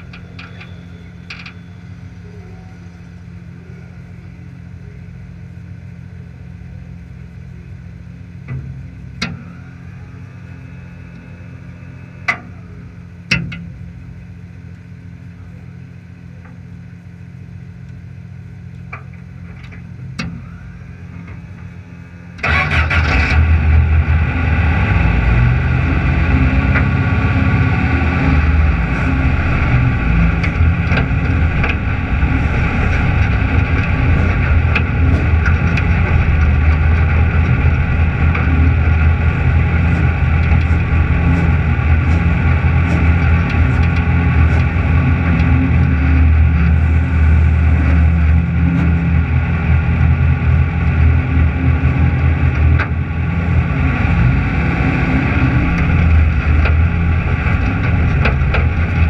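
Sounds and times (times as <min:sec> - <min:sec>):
low steady hum: 0:00.0 - 0:59.0
race car engine running: 0:00.0 - 0:59.0.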